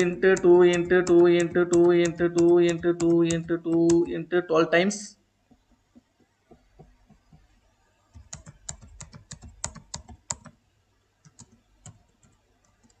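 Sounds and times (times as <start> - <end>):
computer keyboard typing: 0.0 - 4.2, 5.6 - 10.6, 11.2 - 13.0.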